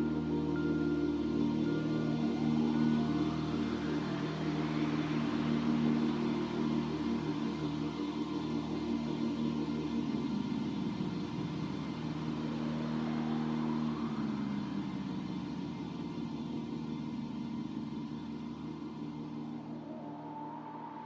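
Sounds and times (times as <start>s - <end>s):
ambient electronic music: 0.0s - 21.0s.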